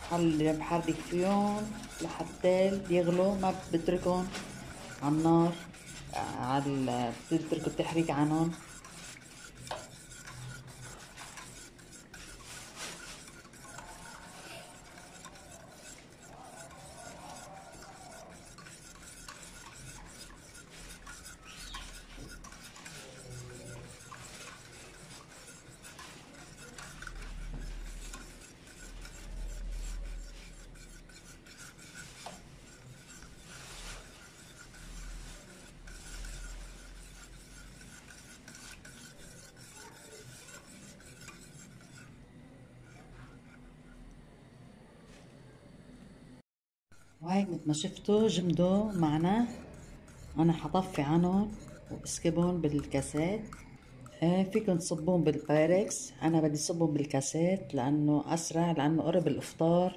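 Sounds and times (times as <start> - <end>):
whisk scraping a pot: 0.0 - 45.2, 46.9 - 59.9.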